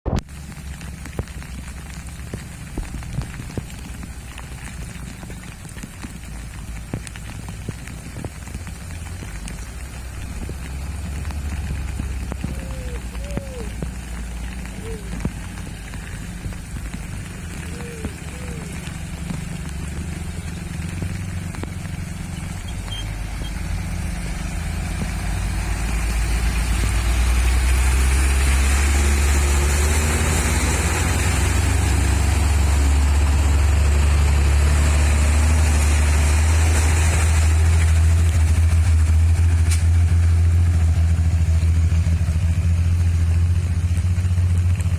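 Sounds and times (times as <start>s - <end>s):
diesel truck engine under load: 0.1s - 44.9s.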